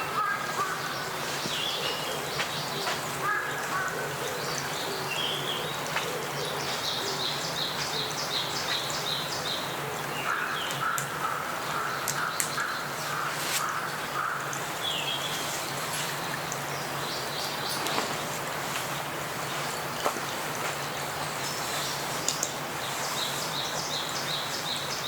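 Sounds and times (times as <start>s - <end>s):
wild birds calling: 0.0s - 25.0s.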